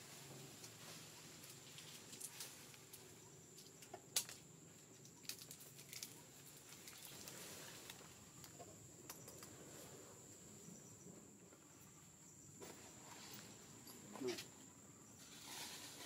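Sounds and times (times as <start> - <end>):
insect trill: 0.2 - 16.0.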